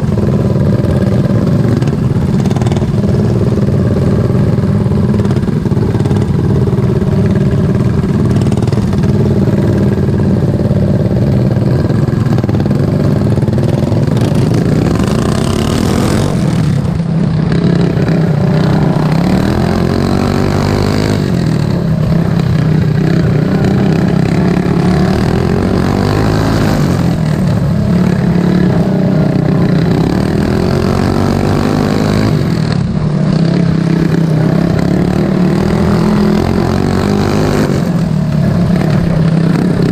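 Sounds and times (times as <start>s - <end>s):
racing lawn mower engine: 0.0s - 39.9s.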